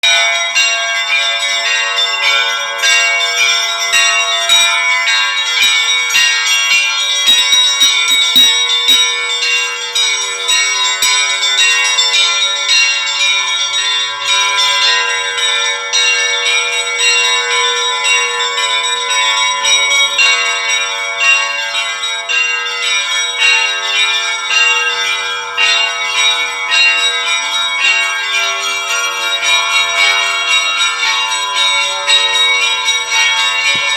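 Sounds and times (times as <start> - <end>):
deep church bells ringing: 0.0 - 33.9
small church bells ringing quickly: 0.0 - 33.9.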